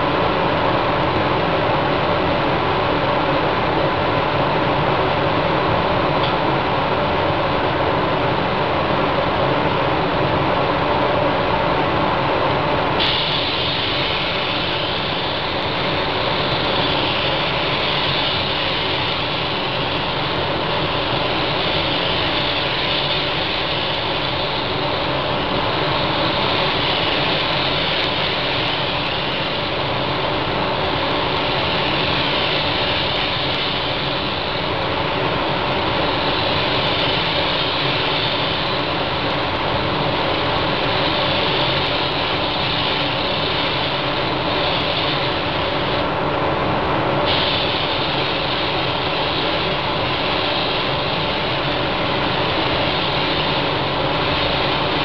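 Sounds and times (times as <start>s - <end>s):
spray gun hissing: 0.0s - 55.0s
steady hum: 0.0s - 55.0s.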